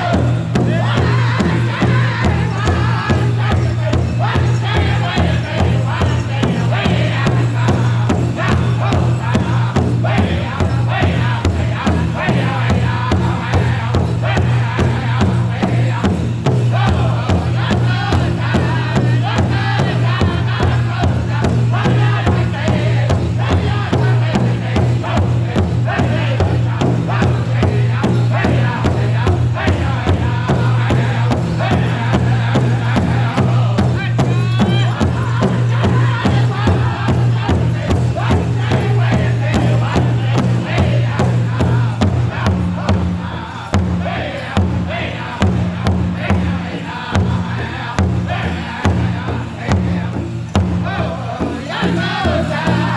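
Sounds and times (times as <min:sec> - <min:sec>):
big drum steady beat: 0:00.0 - 0:52.9
group singing together: 0:00.0 - 0:52.9.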